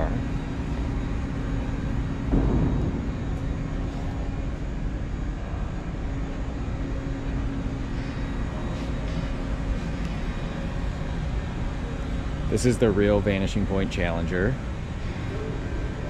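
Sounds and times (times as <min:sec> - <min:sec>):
constant hum: 0:00.0 - 0:16.0
exhibition hall rumble: 0:00.0 - 0:16.0.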